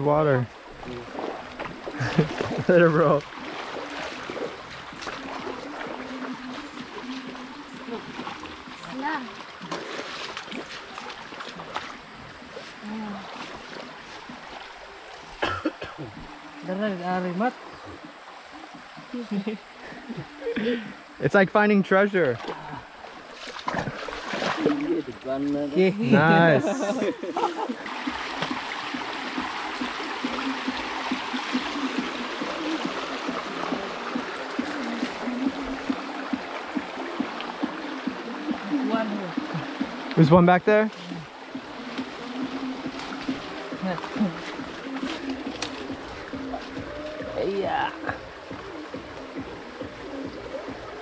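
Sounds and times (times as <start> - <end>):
stream rushing over rocks: 0.0 - 20.2, 20.9 - 51.0.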